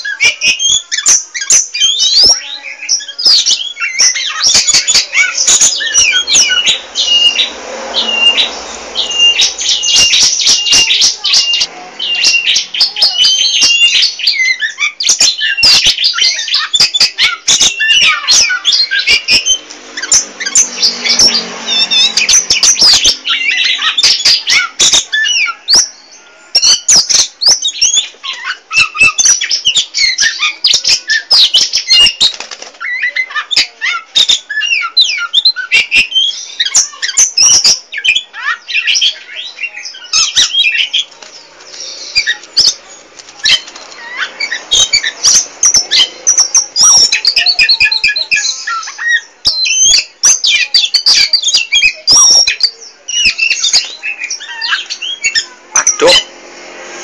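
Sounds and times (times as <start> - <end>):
bird singing whistles and chatter: 0.0 - 56.4.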